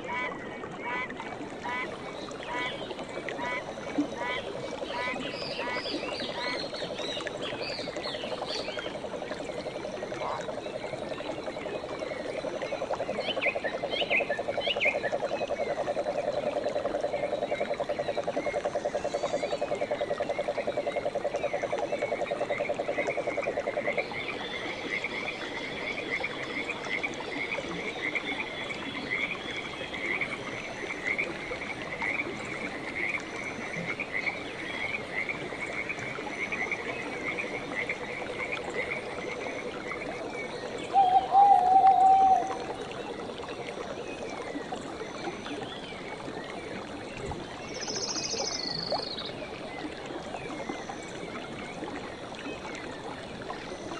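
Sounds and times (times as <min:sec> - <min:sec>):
frogs trilling: 0:00.1 - 0:53.9
frogs chirping: 0:00.9 - 0:53.9.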